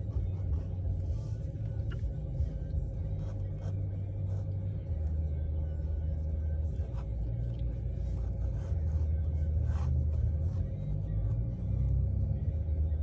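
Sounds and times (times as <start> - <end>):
faint constant hum: 0.0 - 13.0
low rumble in car cabin: 0.0 - 13.0.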